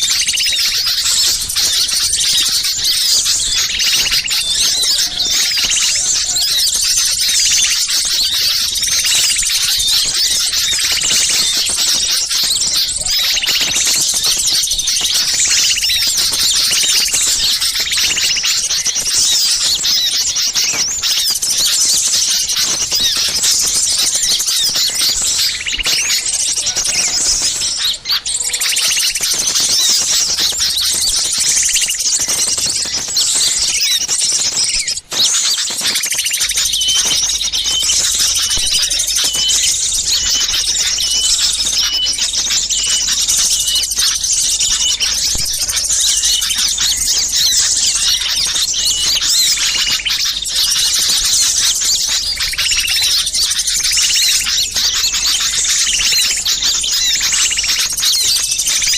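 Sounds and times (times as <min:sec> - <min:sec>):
songbirds chattering and calling: 0:00.0 - 0:58.9.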